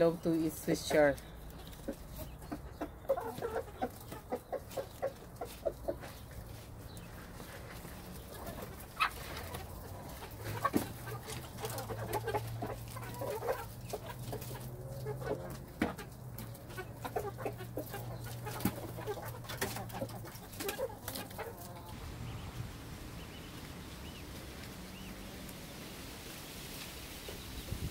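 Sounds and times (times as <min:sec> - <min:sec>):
poultry clucking: 0:00.0 - 0:25.5.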